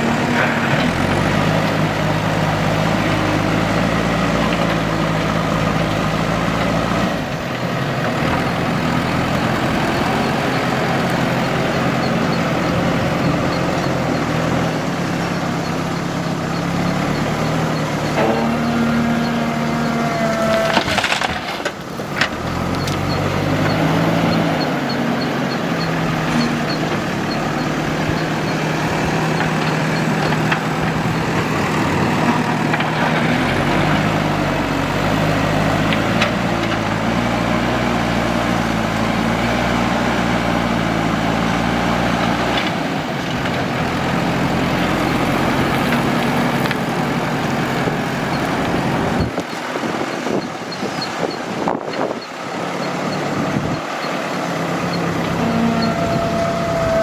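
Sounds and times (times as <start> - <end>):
heavy machine engine running: 0.0 - 57.0.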